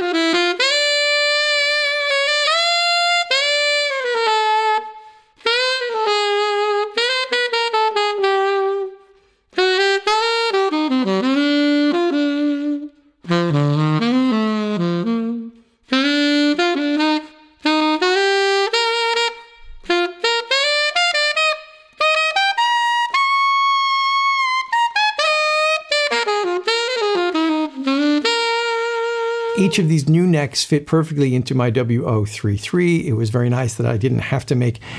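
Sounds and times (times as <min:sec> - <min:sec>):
alto saxophone playing: 0:00.0 - 0:30.5.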